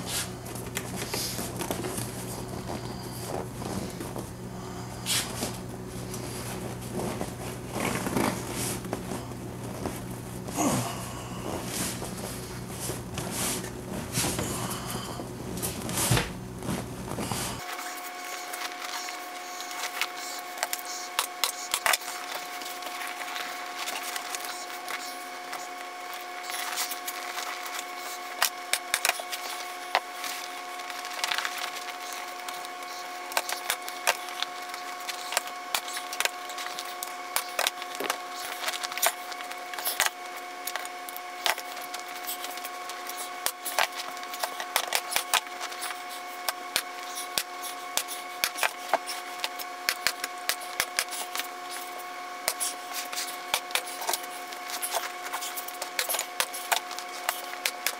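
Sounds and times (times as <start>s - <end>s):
steady background hum: 0.0s - 57.9s.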